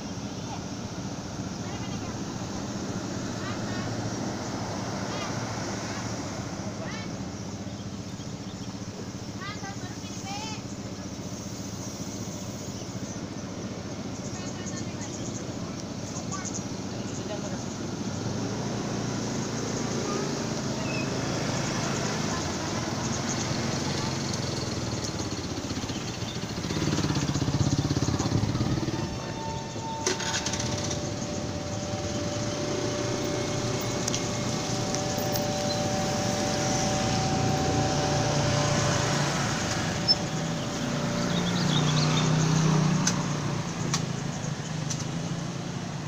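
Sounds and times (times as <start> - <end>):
thin steady whine: 0.0 - 44.7
train wheels on track: 0.0 - 46.0.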